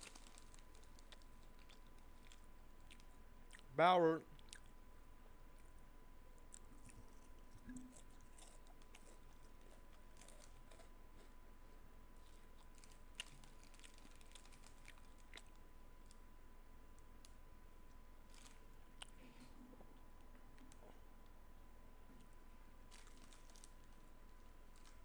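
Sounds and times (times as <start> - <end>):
faint high hum: 0.0 - 25.0.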